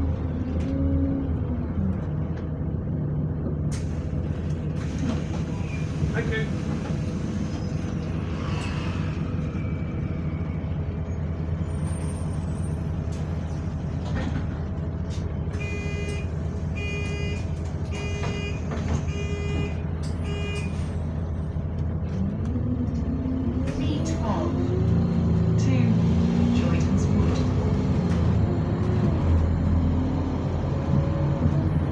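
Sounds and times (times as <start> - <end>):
bus diesel engine idling: 0.0 - 8.4, 9.1 - 31.9.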